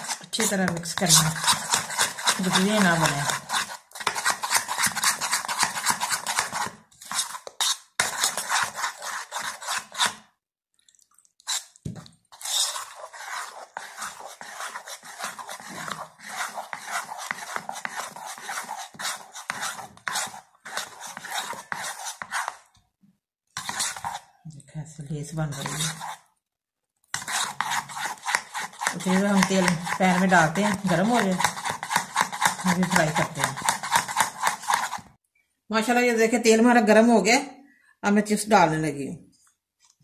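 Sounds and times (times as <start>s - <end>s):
batter stirred in ceramic bowl: 0.0s - 22.7s, 23.5s - 26.3s, 27.1s - 35.2s.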